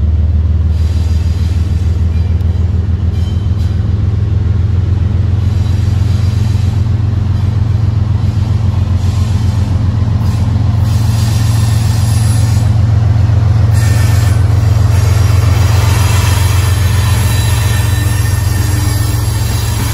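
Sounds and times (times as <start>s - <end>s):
diesel locomotive engine drone: 0.0s - 19.9s.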